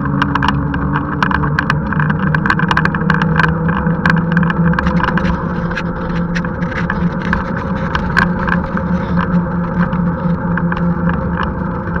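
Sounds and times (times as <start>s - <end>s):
small clicks and rattles: 0.0s - 12.0s
tyres humming on tarmac: 0.0s - 12.0s.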